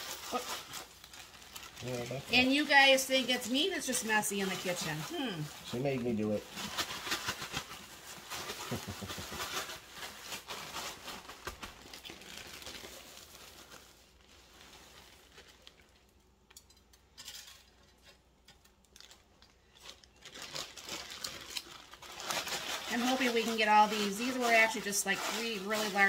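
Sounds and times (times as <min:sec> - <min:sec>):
corn flakes crunching: 0:00.0 - 0:02.8, 0:03.6 - 0:16.2, 0:18.6 - 0:26.0
plastic bag crinkling and rustling: 0:00.0 - 0:16.6, 0:17.2 - 0:26.0.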